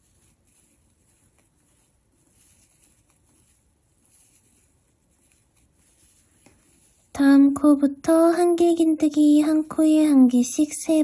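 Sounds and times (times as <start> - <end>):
yarn rustling on crochet hook: 0.0 - 11.0.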